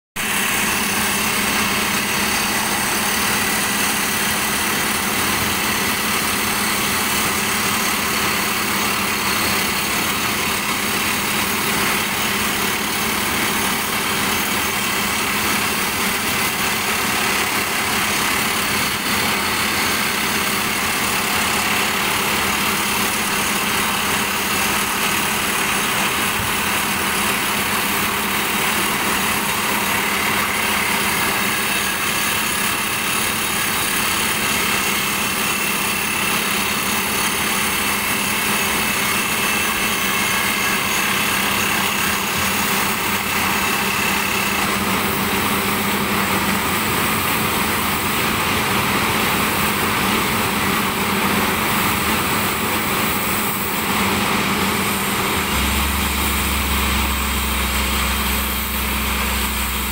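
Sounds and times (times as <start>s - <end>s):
drill rig engine running: 0.2s - 59.9s
rock drill hammering: 0.2s - 59.9s.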